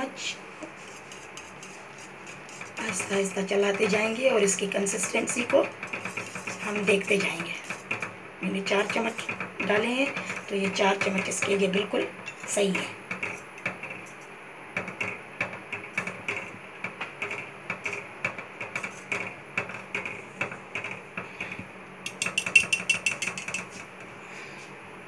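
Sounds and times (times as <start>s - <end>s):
whisk clicking against metal pot: 1.0s - 14.2s, 14.8s - 23.8s.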